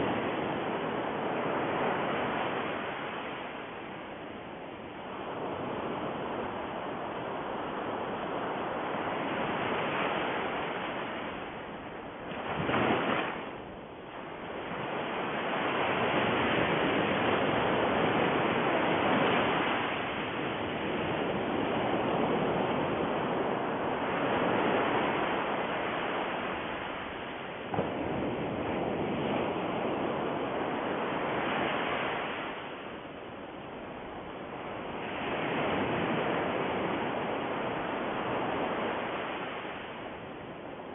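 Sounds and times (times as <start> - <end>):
ocean surf rushing: 0.0 - 40.9.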